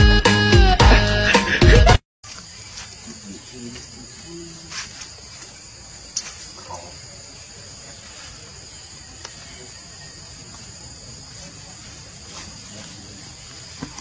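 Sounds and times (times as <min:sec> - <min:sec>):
insects chorus: 0:02.2 - 0:14.0.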